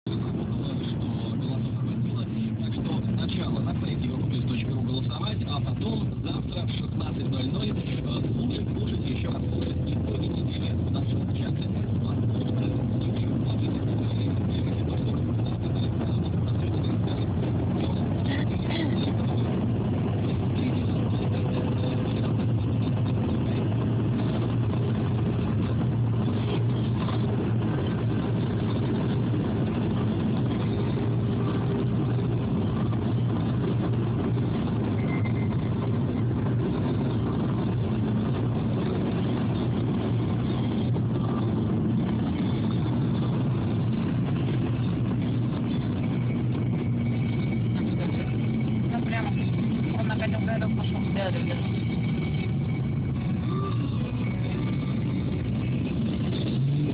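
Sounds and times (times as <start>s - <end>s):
car engine hum: 0.0s - 56.9s
road noise: 0.0s - 56.9s.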